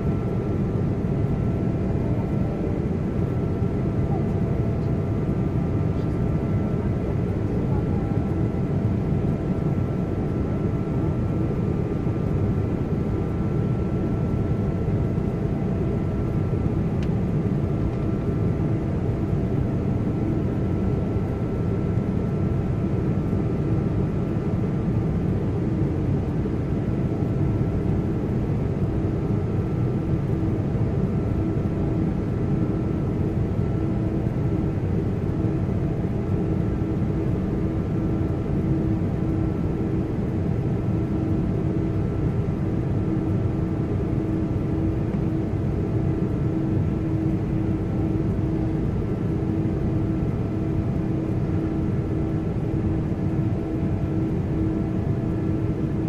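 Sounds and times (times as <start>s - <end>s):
faint steady hum: 0.0s - 56.0s
jet engines and airflow rumble: 0.0s - 56.0s.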